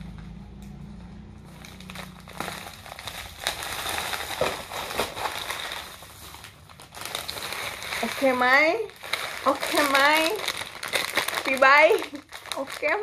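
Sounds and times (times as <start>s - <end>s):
plastic bag crinkling: 1.4s - 13.0s.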